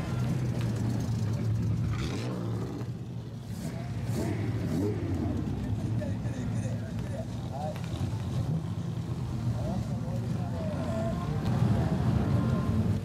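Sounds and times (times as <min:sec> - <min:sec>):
car engine and exhaust rumble: 0:00.0 - 0:13.0.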